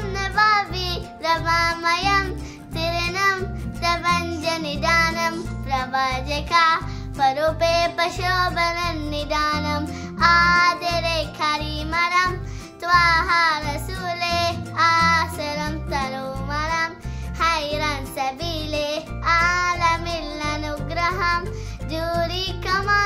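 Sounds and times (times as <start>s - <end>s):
girl singing: 0.0s - 23.0s.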